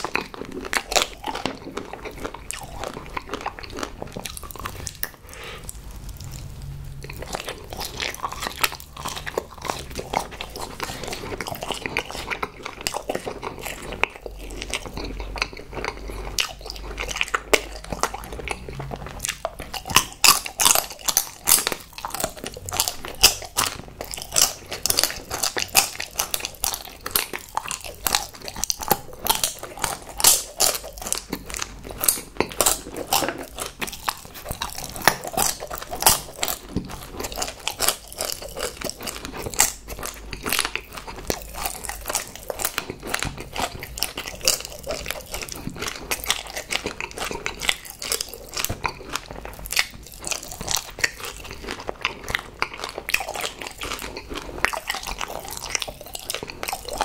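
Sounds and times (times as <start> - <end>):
person chewing crunchy chocolates: 0.0 - 57.0
wet mouth sounds: 0.0 - 57.0.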